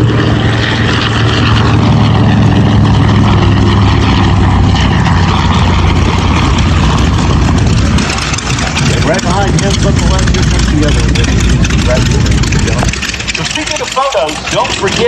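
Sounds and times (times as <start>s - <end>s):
piston aircraft engine running: 0.0s - 15.0s.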